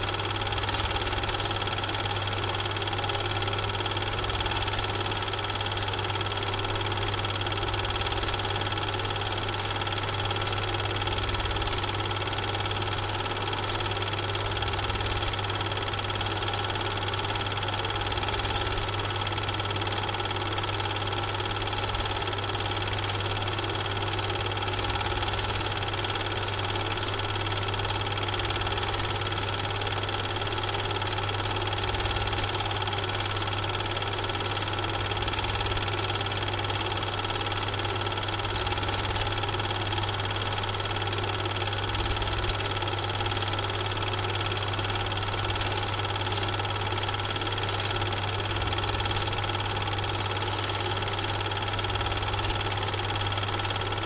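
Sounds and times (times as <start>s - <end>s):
mechanical hum and whir: 0.0s - 54.0s.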